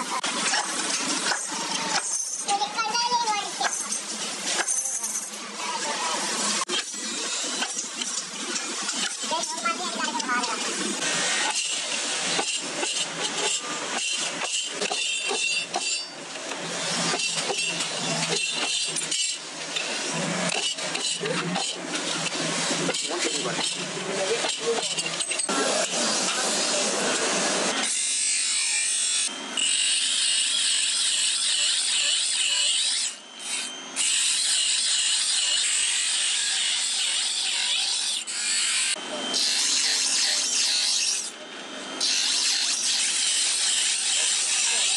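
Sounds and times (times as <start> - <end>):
grinding wheel scraping steel: 0.0 - 44.9.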